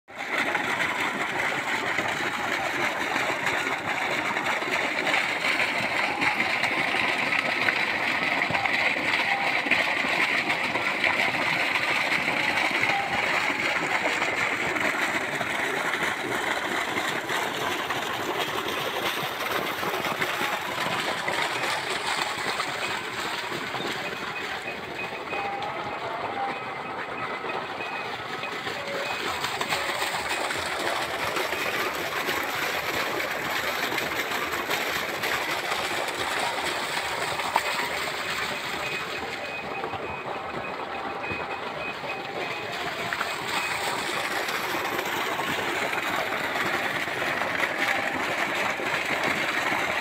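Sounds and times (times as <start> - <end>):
water pump running: 0.0 - 50.0
water gushing from pipe: 0.1 - 50.0.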